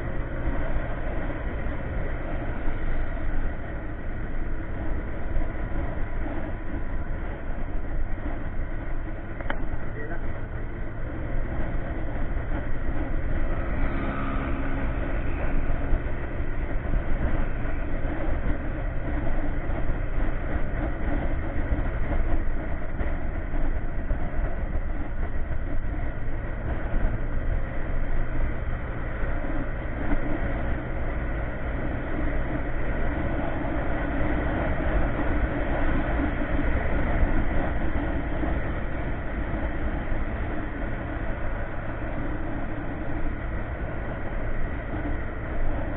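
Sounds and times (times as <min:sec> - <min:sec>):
scooter engine droning: 0:00.0 - 0:45.9
wind rumble on microphone: 0:00.0 - 0:45.9.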